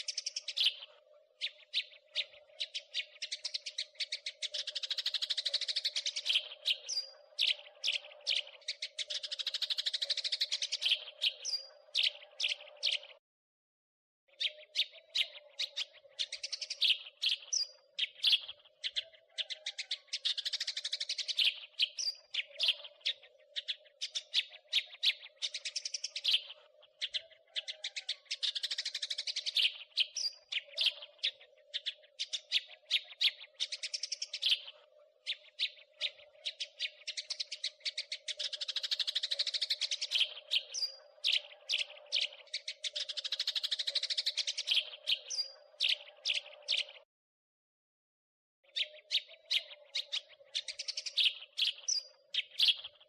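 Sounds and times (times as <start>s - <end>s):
sparrow chattering: 0.0s - 13.2s, 14.3s - 47.0s, 48.7s - 53.0s.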